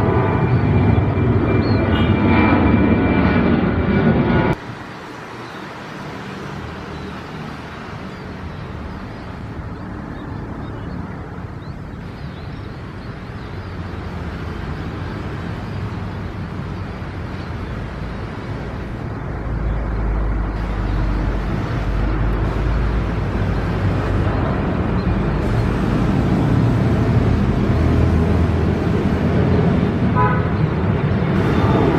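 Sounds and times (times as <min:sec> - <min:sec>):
aircraft engine rumble: 0:00.0 - 0:31.9.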